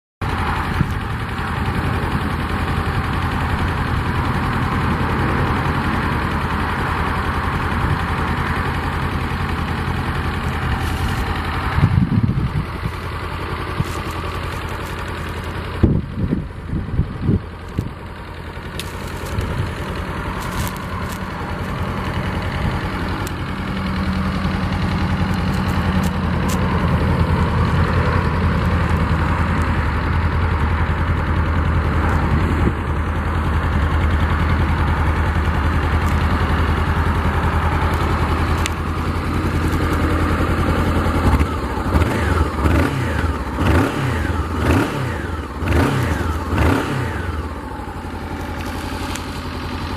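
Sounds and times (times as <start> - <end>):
engine revving: 0.2 - 16.5, 18.7 - 49.9
motorcycle engine idling: 0.2 - 49.9.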